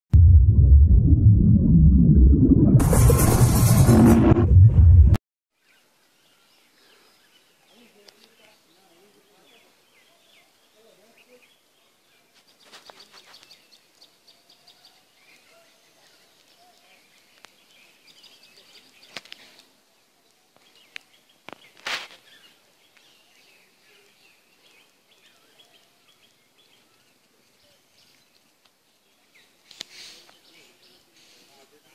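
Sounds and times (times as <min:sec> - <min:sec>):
faint birds chirping: 0:05.6 - 0:31.9.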